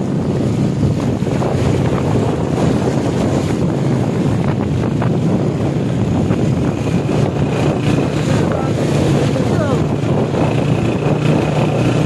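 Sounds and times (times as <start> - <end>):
low engine drone: 0.0 - 12.0
tyres on wet road: 0.0 - 12.0
wind rush on microphone: 0.0 - 12.0.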